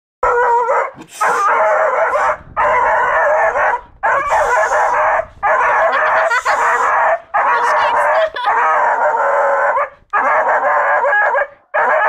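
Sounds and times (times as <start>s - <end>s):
dog baying: 0.2s - 12.0s.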